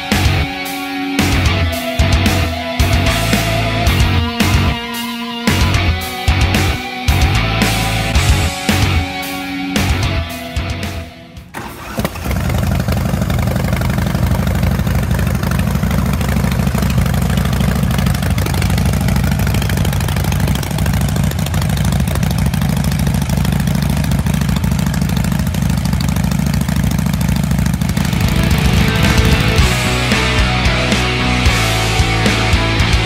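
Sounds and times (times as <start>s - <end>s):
motorcycle engine starting and idling: 0.0s - 33.0s.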